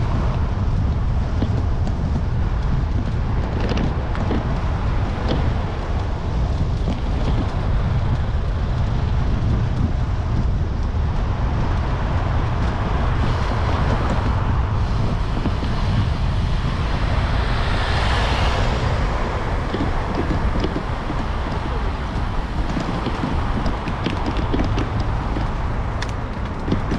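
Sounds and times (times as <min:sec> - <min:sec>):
vehicle and road rumble: 0:00.0 - 0:26.9
wind noise on microphone: 0:00.0 - 0:26.9.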